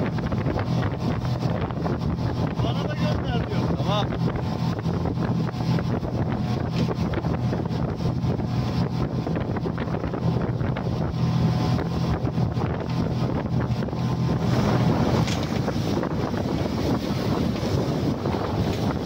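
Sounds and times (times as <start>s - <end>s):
outboard motor droning: 0.0s - 19.0s
water rushing from wake: 0.0s - 19.0s
wind buffeting microphone: 0.0s - 19.0s.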